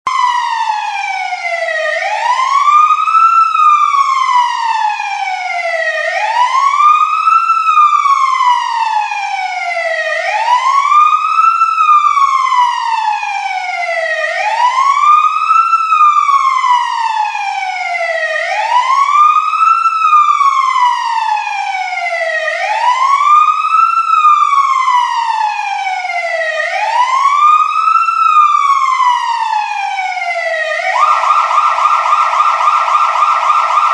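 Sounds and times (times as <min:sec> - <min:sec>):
fire truck siren wailing: 0:00.1 - 0:33.9.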